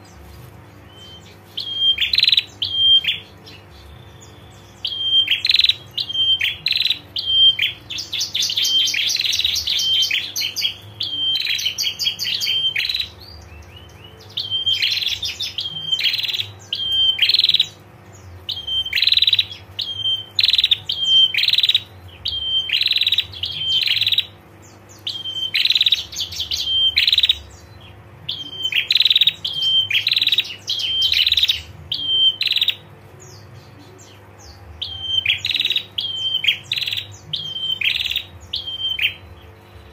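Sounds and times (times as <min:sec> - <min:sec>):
bird calling in sharp bursts: 0:00.9 - 0:13.2, 0:14.3 - 0:32.9, 0:34.8 - 0:39.9.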